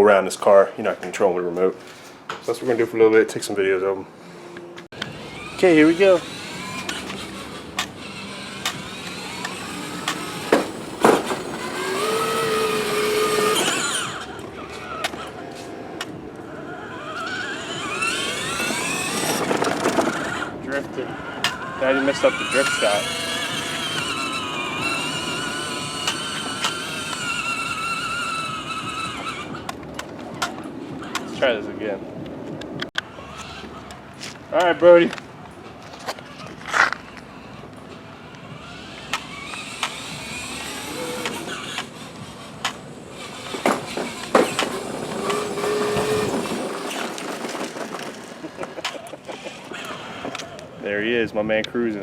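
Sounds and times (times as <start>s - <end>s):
toy car electric motor whining: 5.0s - 31.3s, 33.0s - 34.0s, 36.0s - 50.8s
plastic wheels rolling on pavement: 5.0s - 31.6s, 32.2s - 51.6s.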